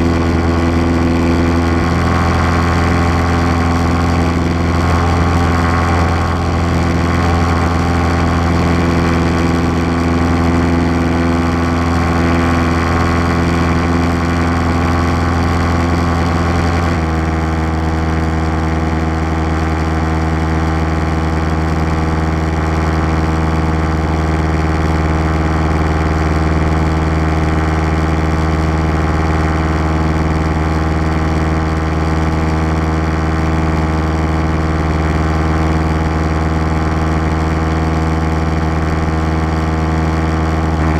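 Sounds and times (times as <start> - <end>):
light aircraft engine drone: 0.0 - 40.9.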